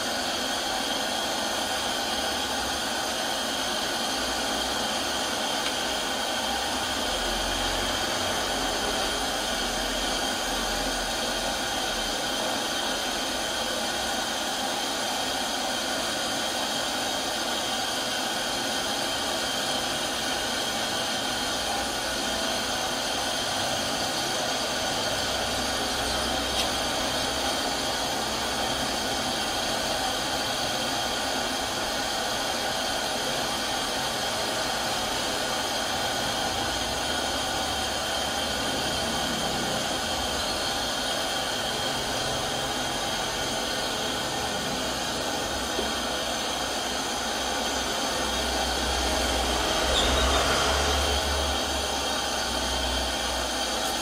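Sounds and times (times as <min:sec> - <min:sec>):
whooshing machine noise: 0:00.0 - 0:54.0.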